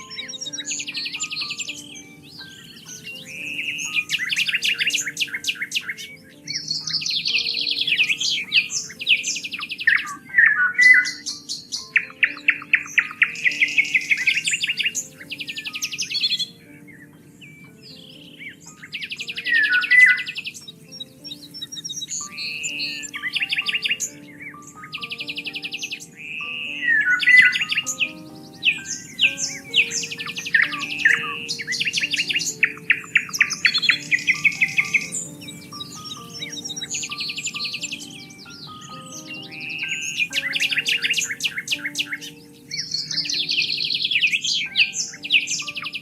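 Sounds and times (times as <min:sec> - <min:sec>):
songbirds singing: 0:00.0 - 0:46.0.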